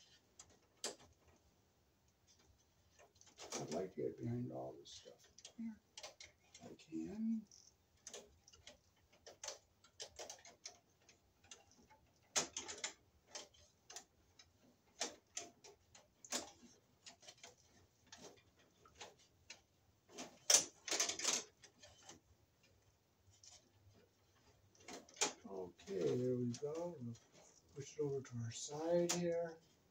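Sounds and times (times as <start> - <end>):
wire clicking and scraping: 0.0 - 1.5, 2.1 - 29.9.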